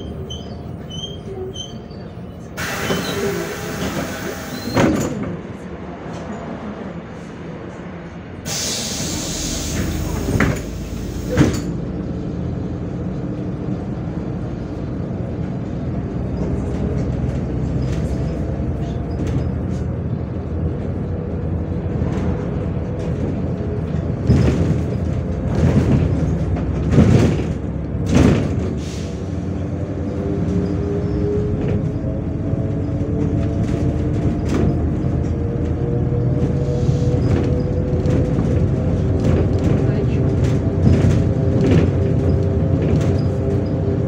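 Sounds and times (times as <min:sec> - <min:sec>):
bus engine droning: 0:00.0 - 0:44.0.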